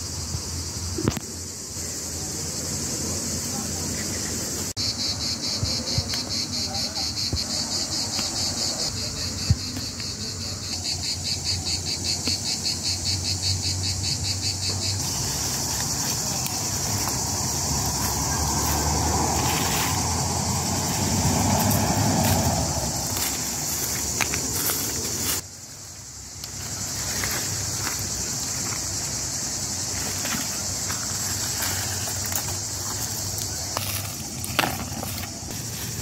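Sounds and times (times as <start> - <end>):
insects chirping: 0.0 - 36.0.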